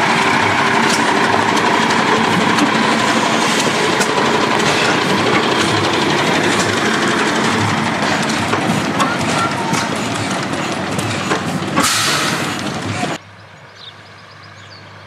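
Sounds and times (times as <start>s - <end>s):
fire truck diesel engine droning: 0.0s - 15.0s.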